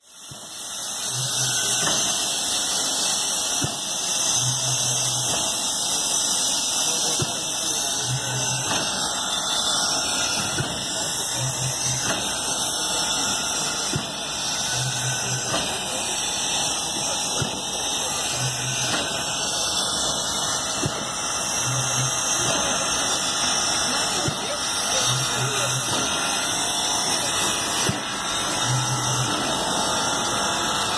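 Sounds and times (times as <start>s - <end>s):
loud hiss of steam: 0.0s - 30.9s.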